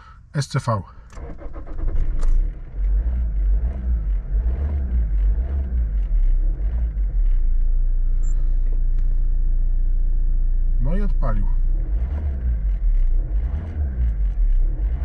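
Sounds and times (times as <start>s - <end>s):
diesel engine starting and idling: 1.0s - 15.0s.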